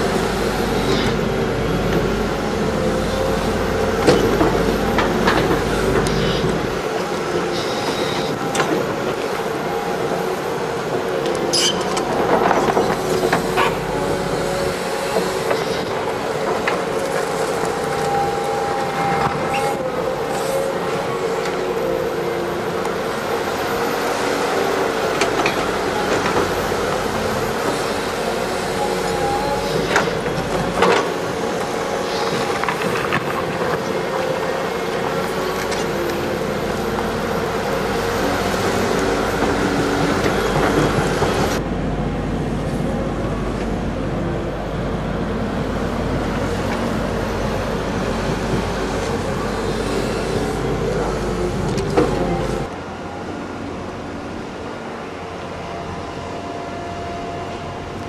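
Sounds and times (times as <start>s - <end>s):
dull machinery rumble: 0.0s - 56.2s
excavator running under load: 0.0s - 58.0s.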